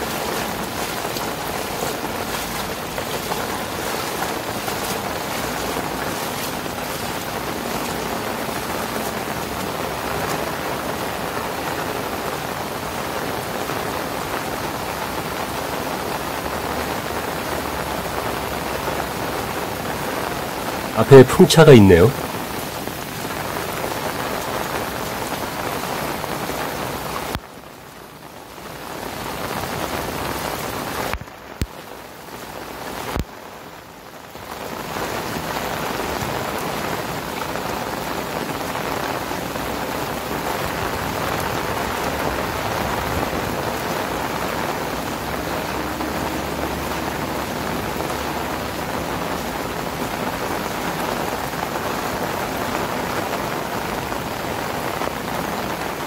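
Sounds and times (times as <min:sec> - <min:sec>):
heavy rain on grass: 0:00.0 - 0:56.0.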